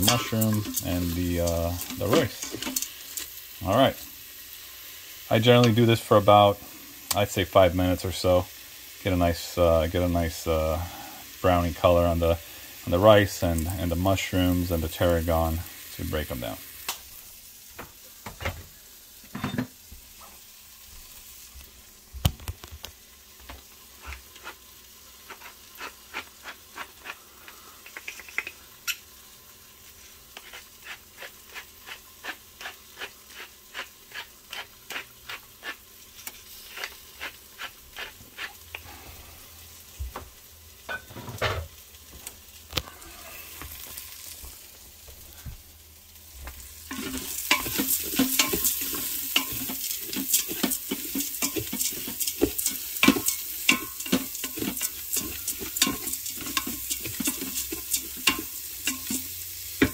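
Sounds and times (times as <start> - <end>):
food sizzling in butter: 0.0 - 59.9.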